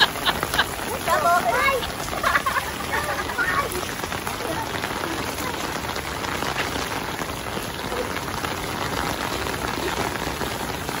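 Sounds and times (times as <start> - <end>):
rain falling on wet concrete: 0.0 - 11.0.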